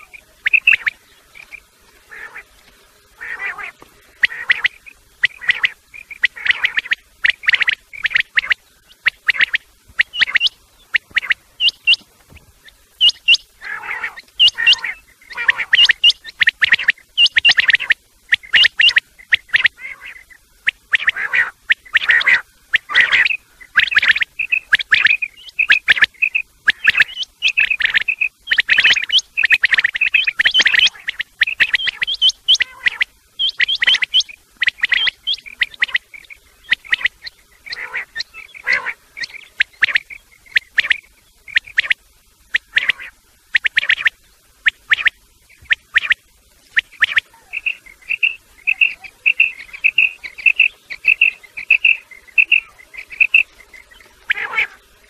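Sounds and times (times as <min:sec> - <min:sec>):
quail call chirping: 0:00.0 - 0:02.6, 0:03.2 - 0:55.0.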